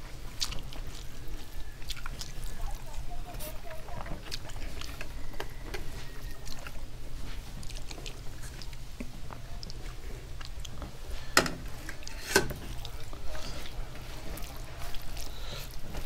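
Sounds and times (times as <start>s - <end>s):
hand squishing rice and curry: 0.0s - 16.0s.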